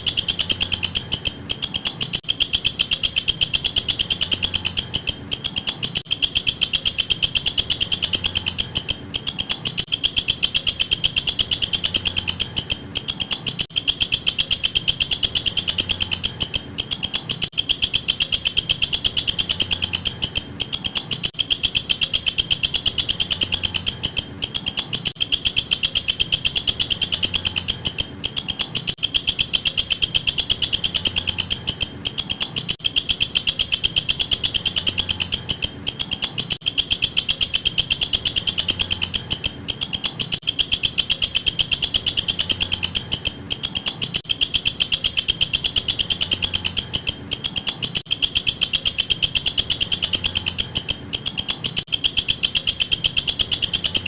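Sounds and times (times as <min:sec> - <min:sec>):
bush cricket trilling: 0:00.0 - 0:54.0.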